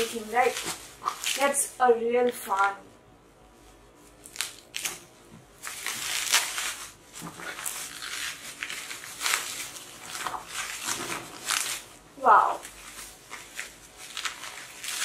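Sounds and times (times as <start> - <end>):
bubble wrap crinkling: 0.0 - 2.8, 3.5 - 15.0.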